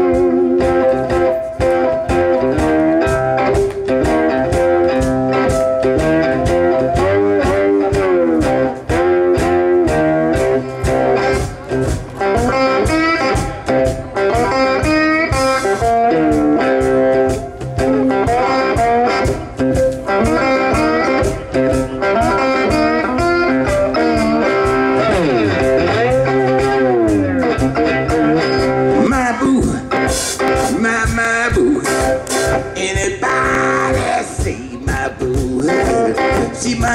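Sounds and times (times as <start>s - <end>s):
blues band playing: 0.0s - 36.9s
electric guitar lead: 0.0s - 36.9s
steady drum beat: 0.0s - 36.9s.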